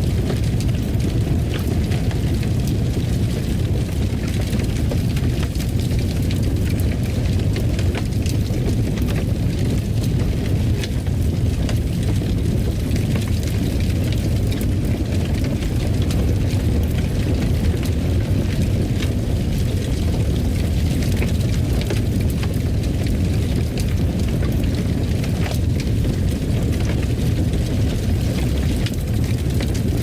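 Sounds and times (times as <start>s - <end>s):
fire crackling: 0.0s - 30.0s
wood fire rumbling: 0.0s - 30.0s.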